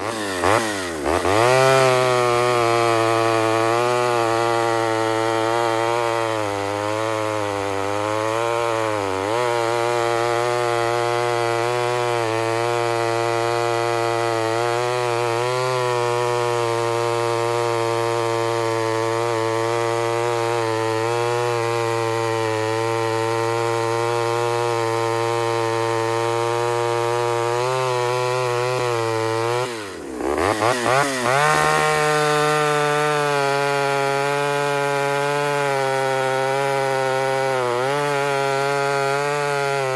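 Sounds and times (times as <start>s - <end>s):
chainsaw running at full throttle: 0.0s - 39.9s.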